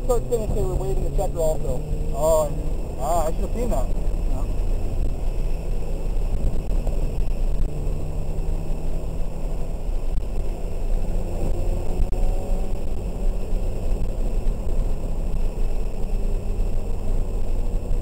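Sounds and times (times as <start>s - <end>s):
car engine drone in cabin: 0.0s - 18.0s
road noise: 0.0s - 18.0s.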